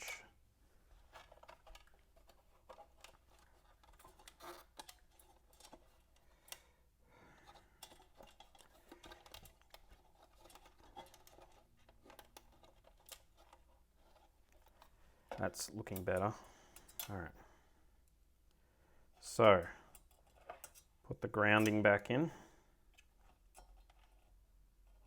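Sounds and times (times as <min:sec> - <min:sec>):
small clicks and scrapes: 0:00.8 - 0:17.2, 0:19.7 - 0:22.0, 0:22.6 - 0:25.0.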